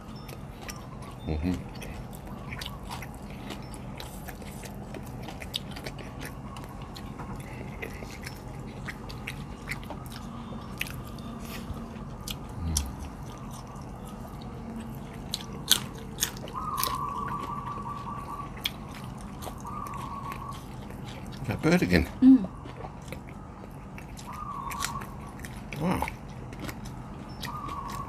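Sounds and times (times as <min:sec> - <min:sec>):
chewing and lip smacks: 0:00.0 - 0:28.0
sharp eating clicks: 0:00.0 - 0:28.0.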